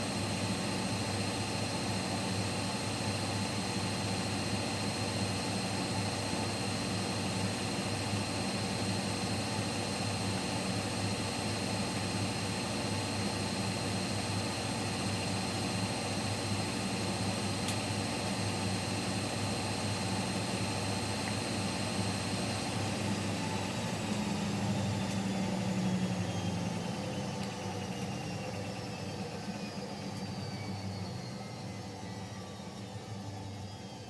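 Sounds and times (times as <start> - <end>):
washing machine spin hum: 0.0 - 34.0.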